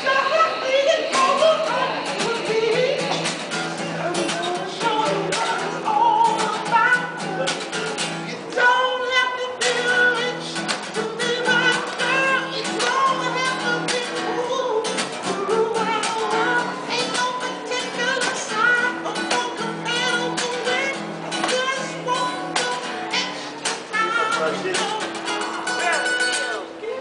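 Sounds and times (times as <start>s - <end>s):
man singing: 0.0s - 26.5s
guitar strumming: 0.0s - 26.8s.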